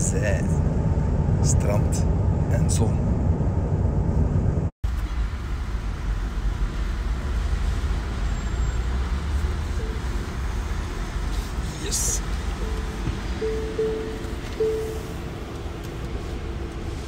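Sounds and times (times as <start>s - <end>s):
road and tyre rumble in car: 0.0s - 17.0s.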